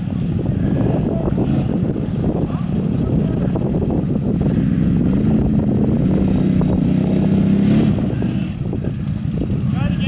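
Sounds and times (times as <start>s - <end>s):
low rumble of quad engines: 0.0s - 10.0s
atv engine revving: 1.0s - 9.2s.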